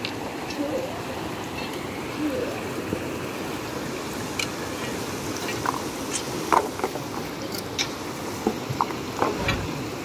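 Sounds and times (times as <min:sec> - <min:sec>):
river flowing over stones: 0:00.0 - 0:10.0
distant voices: 0:00.2 - 0:10.0.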